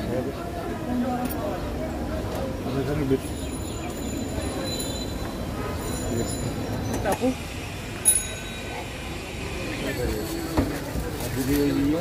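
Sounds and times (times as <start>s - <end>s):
low rumble of street noise: 0.0s - 12.0s.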